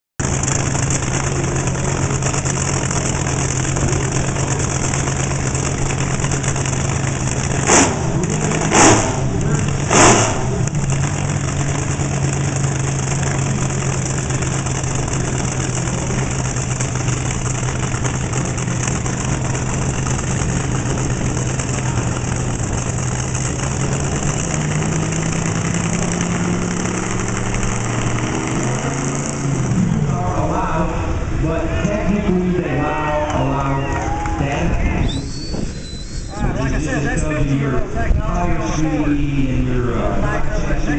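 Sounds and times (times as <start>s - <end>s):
drag car engine idling: 0.2s - 33.8s.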